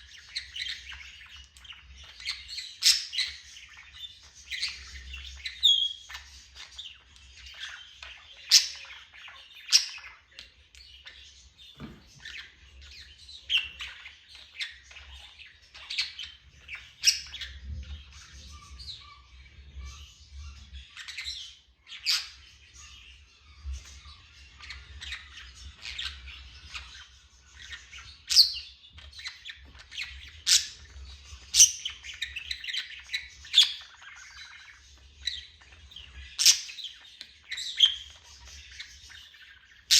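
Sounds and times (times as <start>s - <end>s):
parrot chirping: 0.0s - 39.9s.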